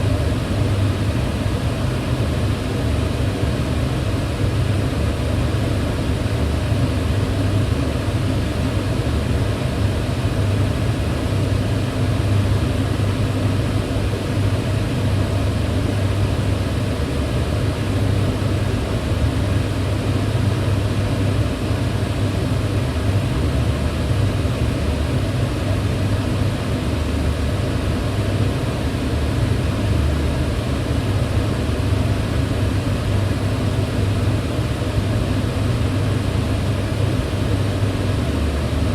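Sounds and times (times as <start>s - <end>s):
range hood fan running: 0.0s - 38.9s.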